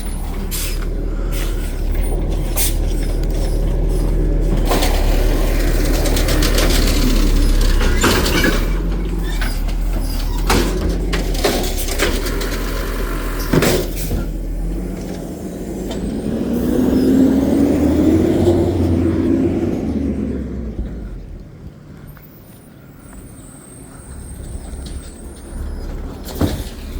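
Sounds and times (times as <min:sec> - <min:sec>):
truck engine running: 0:00.0 - 0:26.9.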